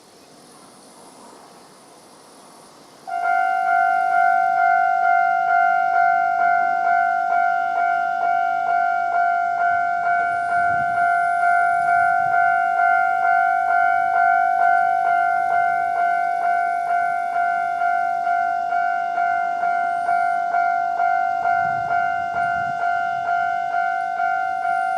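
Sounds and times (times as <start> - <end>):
level crossing alarm dings: 3.1 - 24.9.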